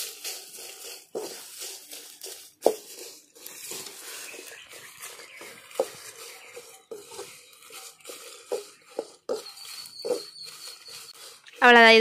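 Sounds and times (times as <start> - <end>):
spoon scraping metal pan: 0.6 - 12.0.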